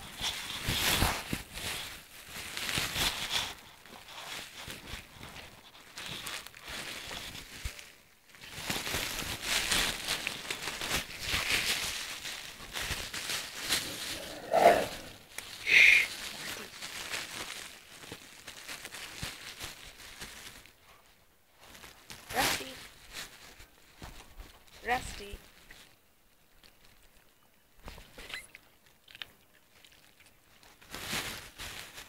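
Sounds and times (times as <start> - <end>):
puppies scuffling and rustling: 0.0 - 32.0.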